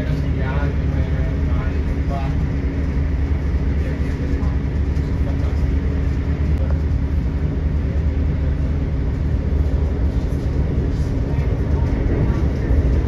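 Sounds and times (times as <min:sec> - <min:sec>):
constant hum: 0:00.0 - 0:13.0
train rumbling at speed: 0:00.0 - 0:13.0.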